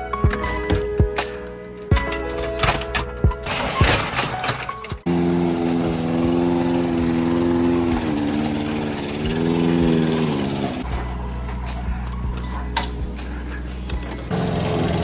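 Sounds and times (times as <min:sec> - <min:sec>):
lawn mower engine running: 0:01.9 - 0:15.0.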